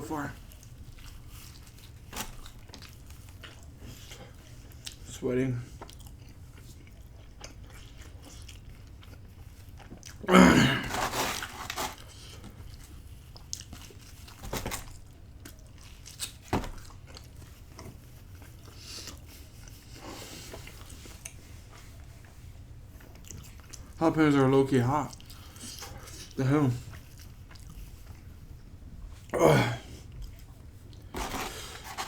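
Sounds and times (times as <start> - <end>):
person chewing pizza: 0.1 - 32.0.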